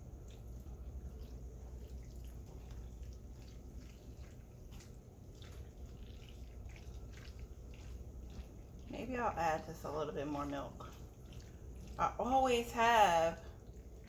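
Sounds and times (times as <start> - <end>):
low steady hum: 0.0 - 14.0
sauce simmering with small pops: 0.0 - 14.0.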